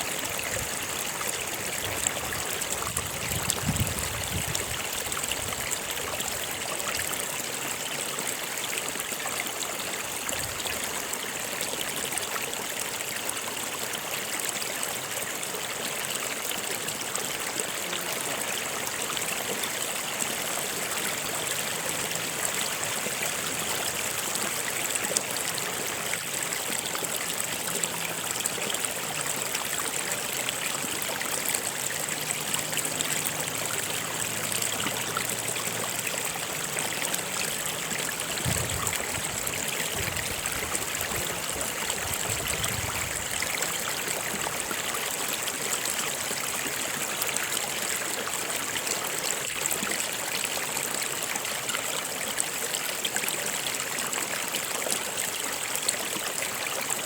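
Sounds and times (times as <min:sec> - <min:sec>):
stream rushing and trickling: 0:00.0 - 0:57.0.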